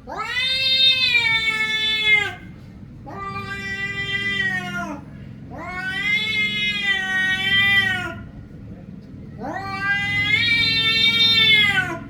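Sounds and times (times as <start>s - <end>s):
cat meowing: 0.1s - 2.5s, 3.1s - 8.3s, 9.4s - 12.0s.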